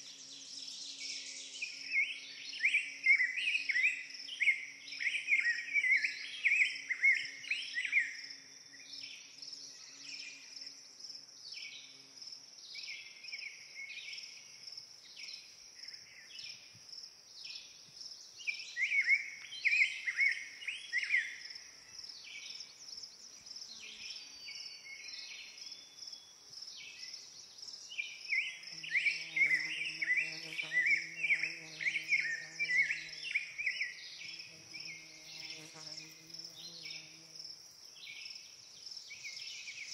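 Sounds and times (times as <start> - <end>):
high-pitched insect buzz: 0.0 - 10.9, 18.6 - 39.9.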